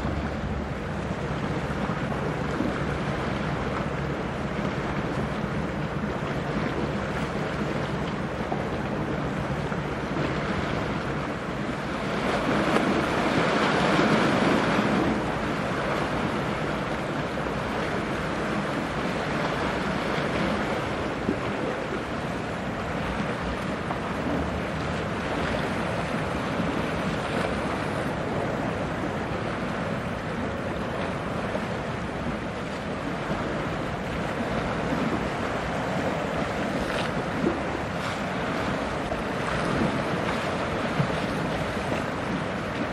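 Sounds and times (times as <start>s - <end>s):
choppy sea water: 0.0s - 42.9s
wind on microphone: 0.0s - 42.9s.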